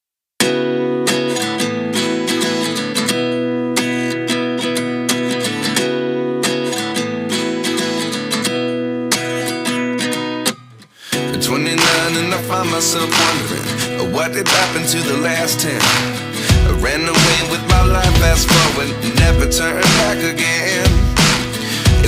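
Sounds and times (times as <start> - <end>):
acoustic guitar song: 0.4 - 22.0
strummed acoustic guitar chords: 0.4 - 22.0.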